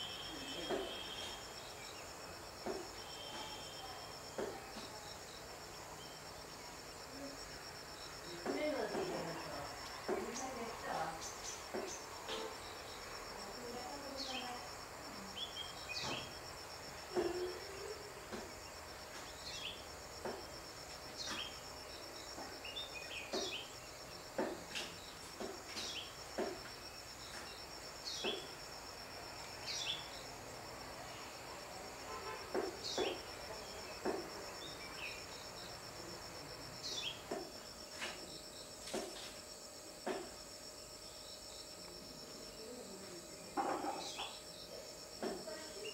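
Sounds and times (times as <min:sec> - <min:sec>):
insect trilling: 0:00.0 - 0:45.9.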